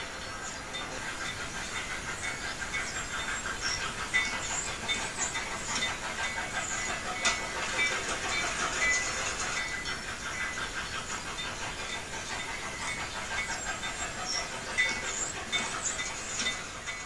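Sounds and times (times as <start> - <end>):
model train wheels rolling on rail: 0.0 - 17.0.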